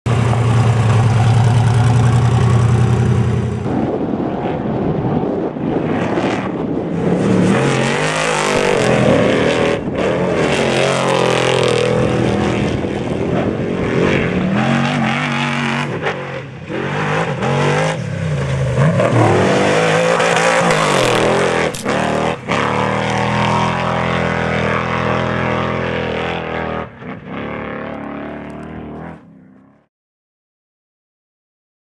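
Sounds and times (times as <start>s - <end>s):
truck engine revving: 0.1s - 3.9s, 6.2s - 29.2s.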